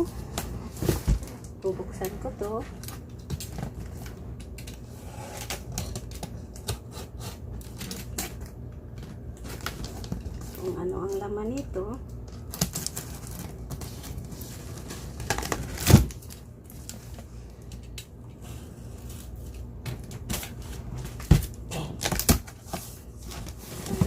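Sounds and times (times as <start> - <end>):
cardboard packaging crinkling and tearing: 2.8 - 11.2, 12.2 - 18.0, 18.6 - 24.0.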